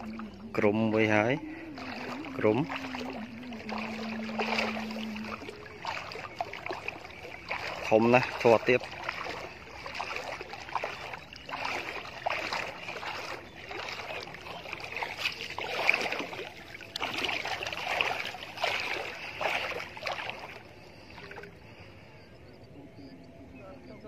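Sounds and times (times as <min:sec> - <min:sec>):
water splashing and sloshing: 0:00.0 - 0:23.1.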